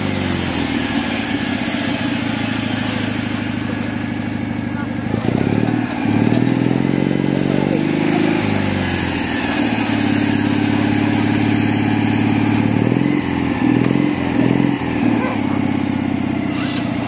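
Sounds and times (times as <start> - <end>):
lure machine engine running: 0.0 - 17.0.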